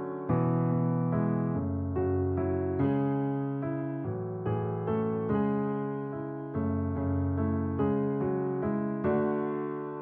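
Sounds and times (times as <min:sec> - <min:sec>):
soft electric piano music: 0:00.0 - 0:10.0.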